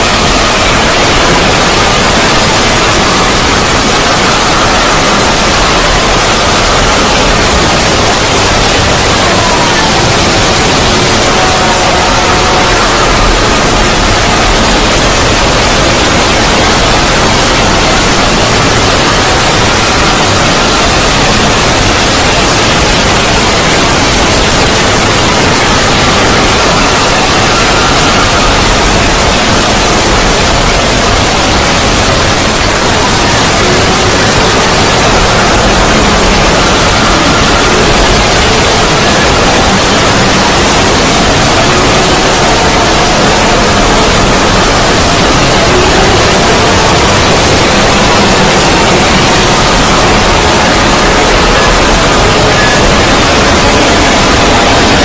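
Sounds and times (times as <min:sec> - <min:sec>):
loud static-like noise: 0:00.0 - 0:55.0.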